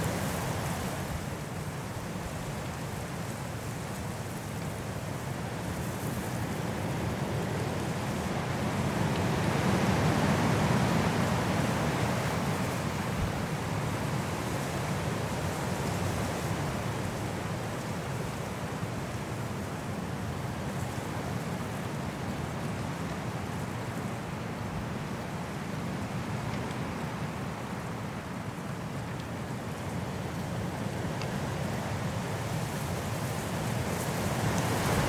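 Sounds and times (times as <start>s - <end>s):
wind blowing through trees: 0.0s - 35.0s.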